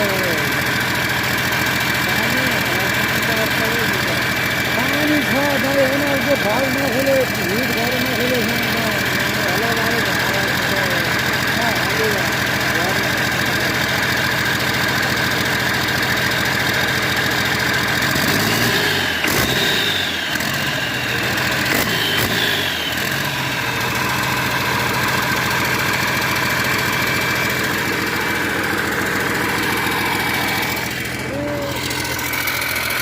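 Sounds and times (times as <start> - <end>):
excavator diesel engine idling: 0.0 - 33.0.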